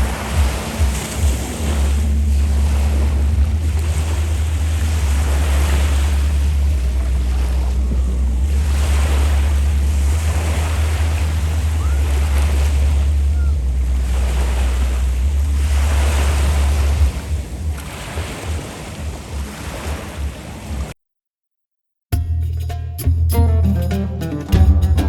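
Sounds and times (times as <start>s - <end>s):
sea waves washing onto beach: 0.0s - 20.9s
wind rumble on microphone: 0.0s - 20.9s.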